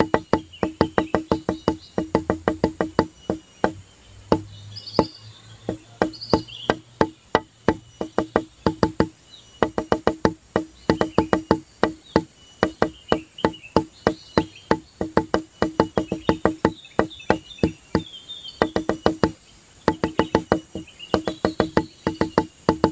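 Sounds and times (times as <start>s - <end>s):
high chirping notes: 0.0s - 22.9s
wood-block percussion rhythm: 0.0s - 22.9s.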